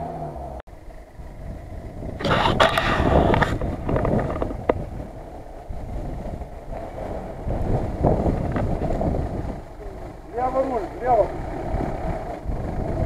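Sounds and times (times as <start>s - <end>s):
car engine running: 0.0s - 13.0s
wind buffeting microphone: 0.8s - 13.0s.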